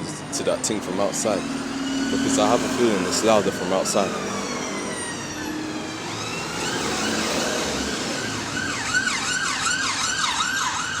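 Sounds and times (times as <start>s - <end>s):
street traffic: 0.0s - 11.0s
emergency vehicle siren yelping: 0.1s - 11.0s.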